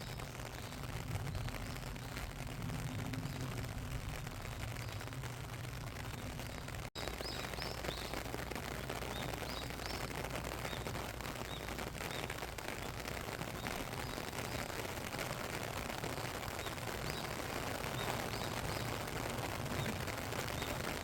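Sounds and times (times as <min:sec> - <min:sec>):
small birds chirping: 0:00.0 - 0:21.0
steady rain falling: 0:00.0 - 0:21.0.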